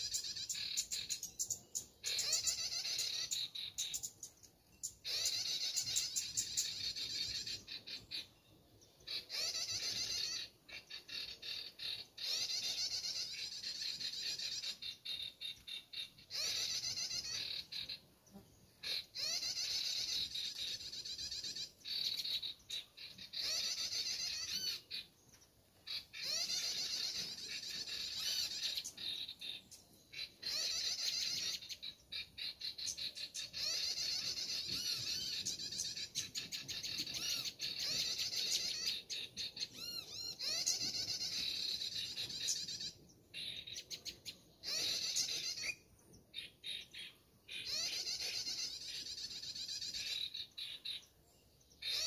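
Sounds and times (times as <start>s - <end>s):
recorded bird calls chattering: 0.0s - 52.0s.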